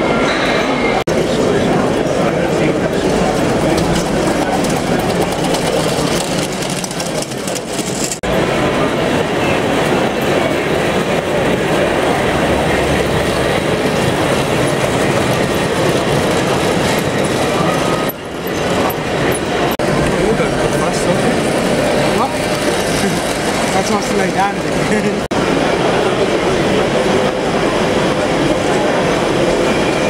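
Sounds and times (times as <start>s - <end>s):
model train wheels rumbling: 1.1s - 30.0s.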